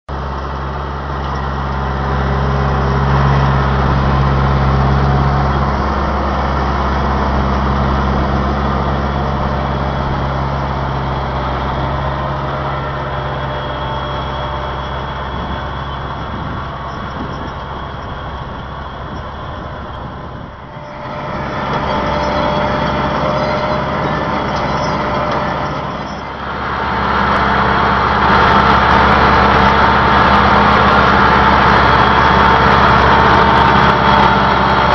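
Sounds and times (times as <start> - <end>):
tractor diesel engine under load: 0.0 - 34.9
planter machinery clattering: 0.1 - 34.9.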